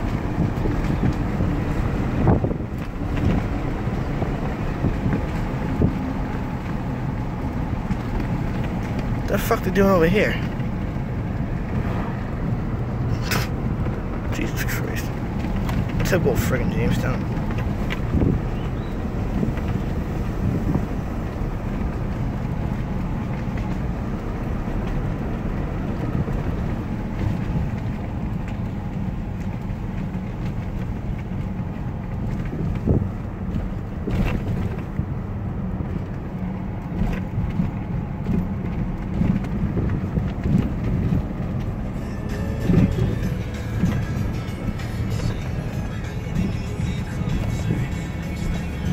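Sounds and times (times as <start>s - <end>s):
road and engine rumble: 0.0s - 48.9s.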